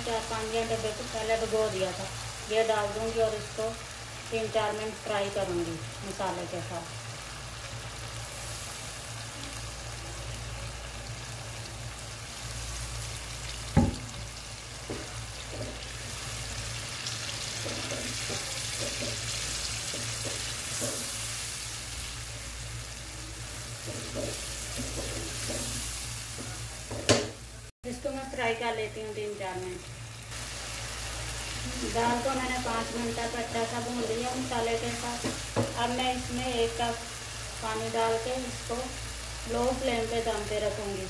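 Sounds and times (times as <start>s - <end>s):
lentils sizzling in a frying pan: 0.0s - 41.0s.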